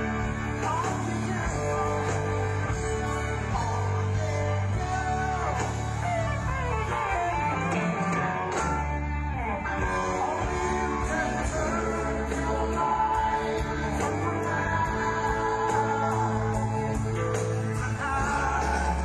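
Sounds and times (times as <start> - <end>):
guitar playing: 0.0 - 19.0
live rock band music: 0.0 - 19.0
sustained bass notes: 0.0 - 19.0.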